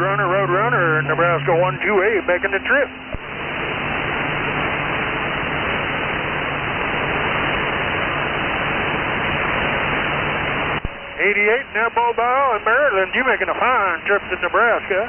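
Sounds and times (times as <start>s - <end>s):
faint low hum: 0.0s - 15.0s
radio static hiss: 0.0s - 15.0s.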